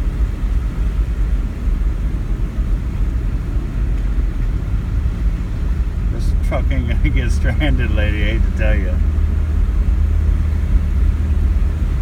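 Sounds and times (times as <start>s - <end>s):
truck engine rumbling: 0.0s - 12.0s
water against vehicle: 0.0s - 12.0s.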